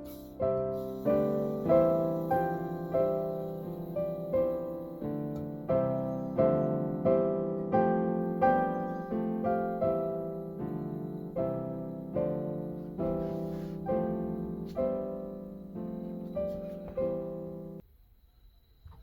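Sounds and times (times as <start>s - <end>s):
slow piano music: 0.0s - 17.8s.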